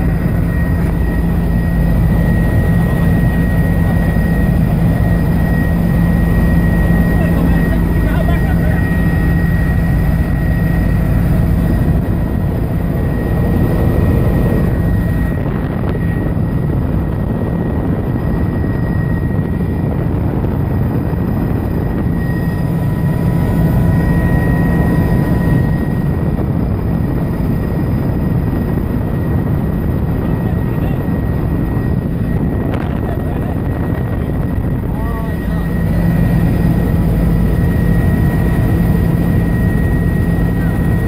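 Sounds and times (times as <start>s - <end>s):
helicopter drone: 0.0s - 41.0s
thin high whine: 0.0s - 41.0s.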